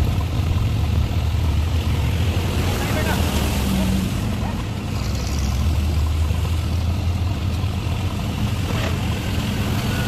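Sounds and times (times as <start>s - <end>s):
water rushing past wheels: 0.0s - 10.0s.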